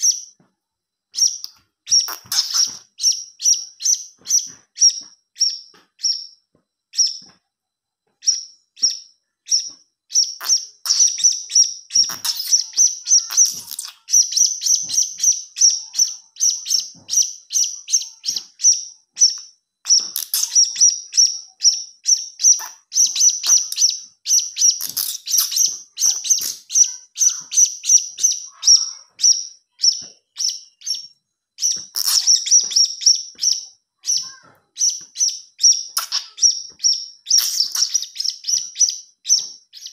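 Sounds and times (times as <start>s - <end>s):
parrot chick chirping: 0.0s - 0.4s, 1.2s - 6.4s, 7.0s - 7.4s, 8.2s - 39.9s.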